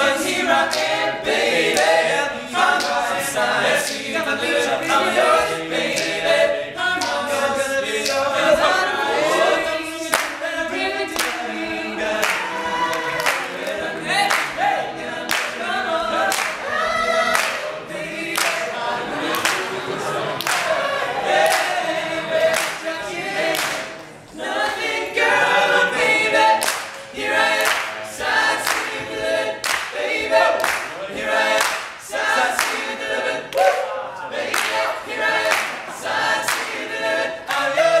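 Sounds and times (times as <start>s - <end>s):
vocal group singing a cappella: 0.0s - 38.0s.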